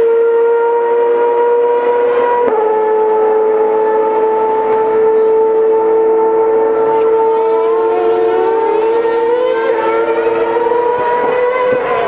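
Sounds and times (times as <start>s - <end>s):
car accelerating engine: 0.0s - 12.0s
racing car engines whining: 0.0s - 12.0s.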